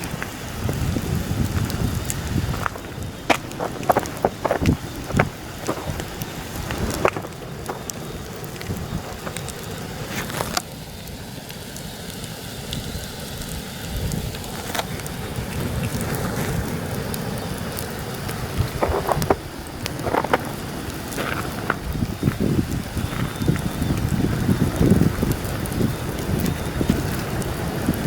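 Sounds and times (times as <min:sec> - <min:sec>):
wind buffeting microphone: 0:00.0 - 0:11.1, 0:12.5 - 0:28.0
campfire crackling and popping: 0:00.0 - 0:28.0.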